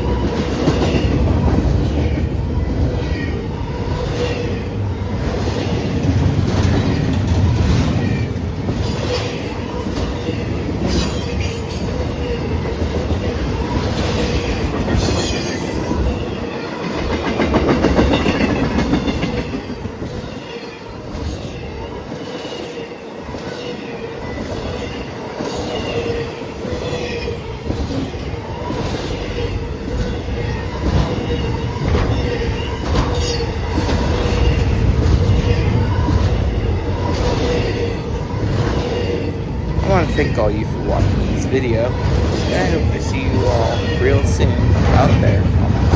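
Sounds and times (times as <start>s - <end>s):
freight train rolling past: 0.0s - 45.9s.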